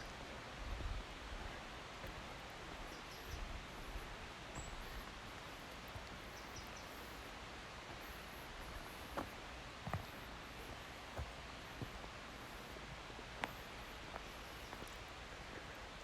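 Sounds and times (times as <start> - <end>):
steady forest hiss: 0.0 - 16.0.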